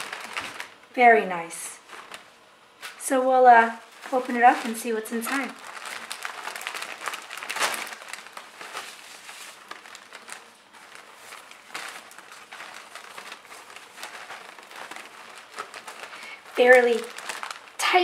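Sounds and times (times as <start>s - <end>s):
gift wrap and ribbon rustling: 0.0s - 18.0s.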